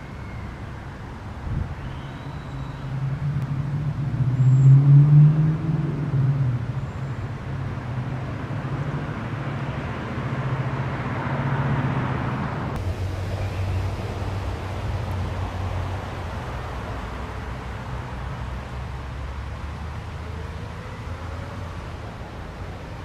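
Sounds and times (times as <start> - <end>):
traffic driving past: 0.0 - 23.0.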